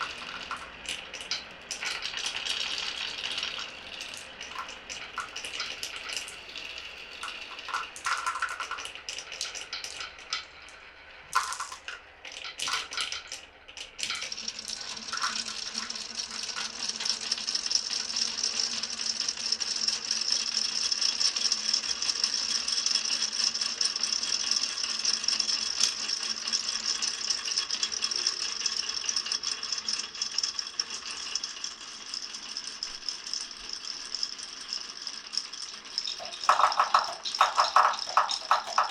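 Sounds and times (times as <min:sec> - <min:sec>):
marbles rattling through marble run: 0:00.0 - 0:38.9.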